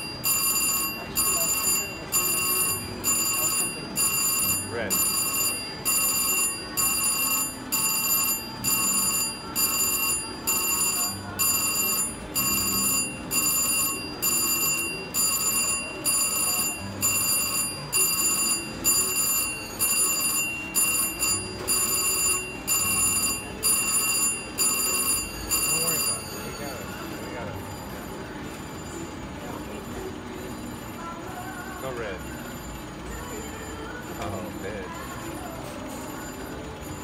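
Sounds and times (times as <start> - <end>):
slot machine chime: 0.0 - 37.0.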